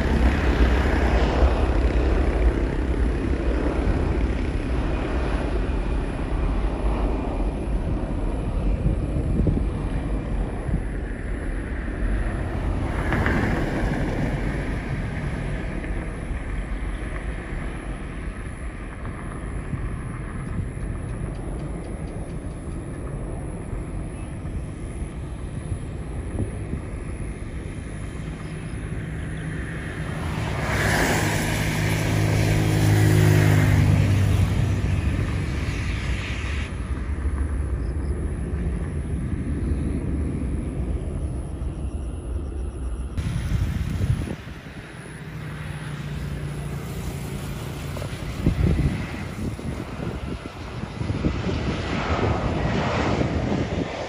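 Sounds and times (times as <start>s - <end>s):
distant jet engines rumbling: 0.0s - 54.0s
jet engine whine: 0.0s - 54.0s.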